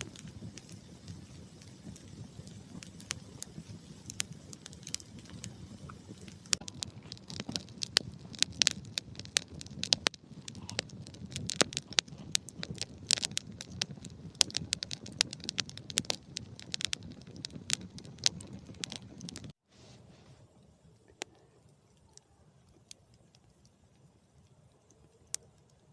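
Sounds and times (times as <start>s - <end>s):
wood fire crackling and popping: 0.0s - 19.6s, 20.5s - 25.9s
rush of flames: 0.0s - 25.9s.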